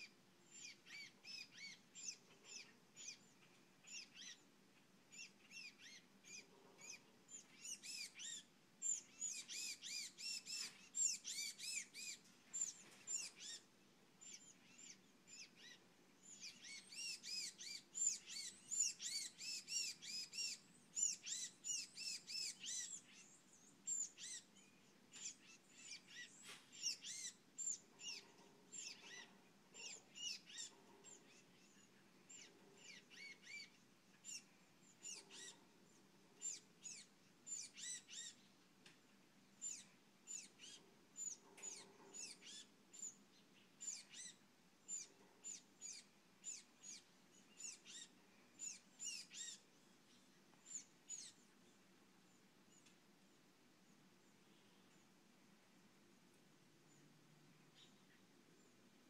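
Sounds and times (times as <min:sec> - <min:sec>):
birds chirping: 0:00.0 - 0:55.2, 0:56.8 - 0:59.0.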